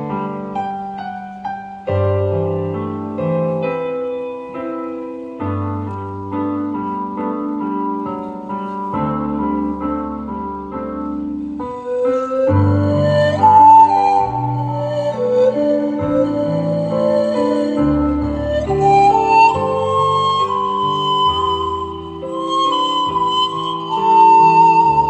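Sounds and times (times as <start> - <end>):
pan flute: 0.0 - 25.0
piano chords with bass notes: 0.0 - 25.0.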